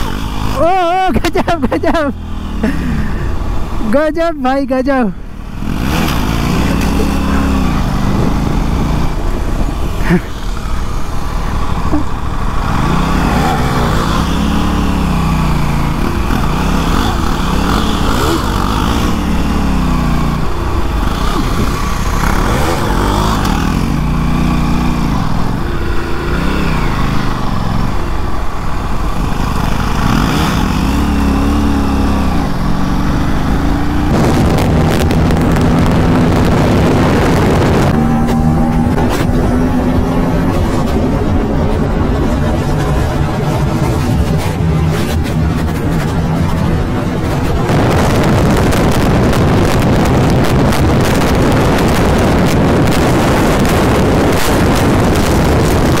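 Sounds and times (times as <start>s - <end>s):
motorcycle engine running: 0.0s - 4.0s, 5.1s - 56.0s.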